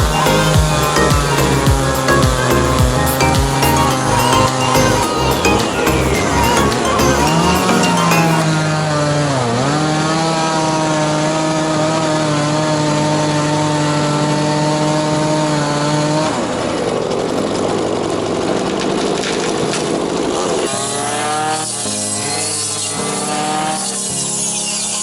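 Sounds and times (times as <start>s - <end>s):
power saw cutting: 0.0s - 25.0s.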